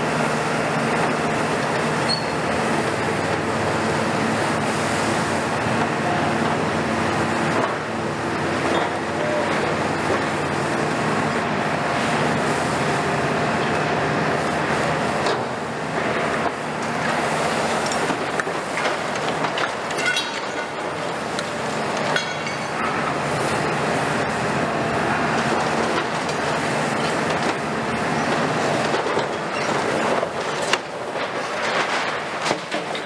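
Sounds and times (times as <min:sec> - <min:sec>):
excavator diesel engine and hydraulics: 0:00.0 - 0:33.0.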